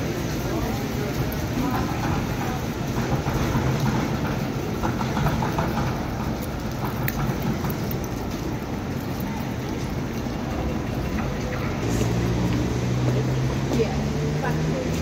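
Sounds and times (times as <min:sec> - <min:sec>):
rain on wet pavement: 0:00.0 - 0:15.0
rumble of traffic and trams: 0:00.0 - 0:15.0.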